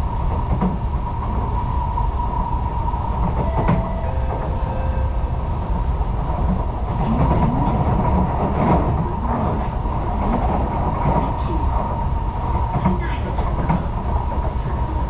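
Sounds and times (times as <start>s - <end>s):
train wheels rumbling on rail: 0.0s - 15.0s
train whine: 0.0s - 15.0s.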